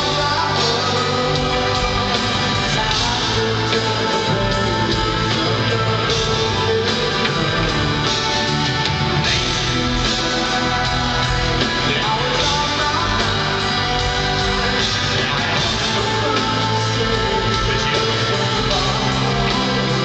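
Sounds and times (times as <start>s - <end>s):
lead singer vocals: 0.0s - 20.0s
rock band playing slow song: 0.0s - 20.0s.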